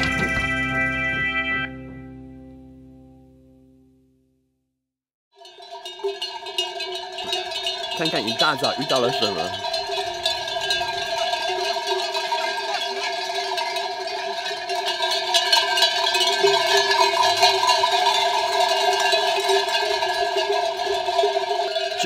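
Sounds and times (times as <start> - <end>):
sheep bells clanking: 0.0 - 1.3, 5.4 - 22.0.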